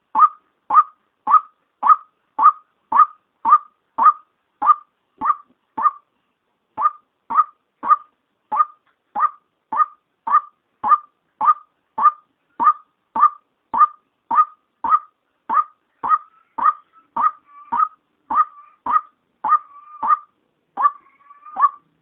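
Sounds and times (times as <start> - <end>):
waterhen call: 0.1 - 6.1, 6.8 - 21.9.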